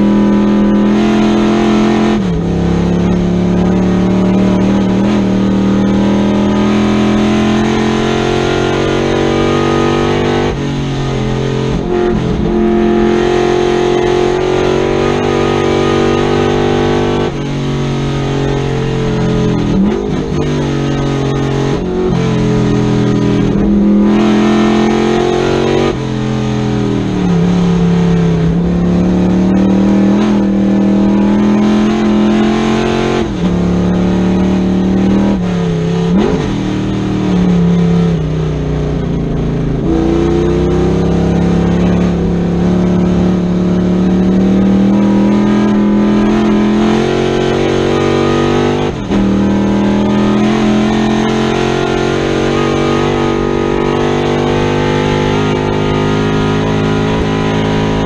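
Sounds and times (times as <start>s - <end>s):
car engine racing: 0.0s - 58.0s.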